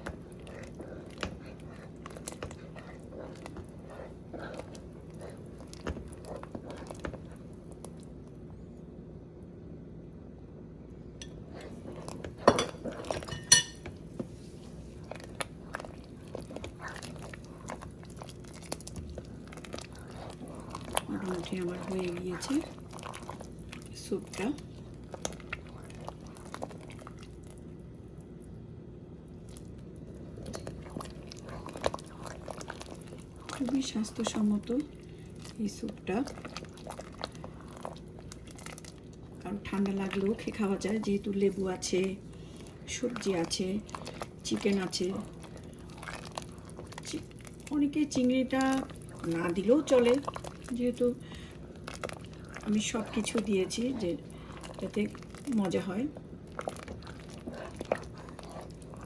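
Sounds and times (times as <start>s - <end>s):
spoon stirring soup in a pot: 0.0s - 8.5s, 11.2s - 28.4s, 29.3s - 59.0s
low steady hum: 0.0s - 59.0s.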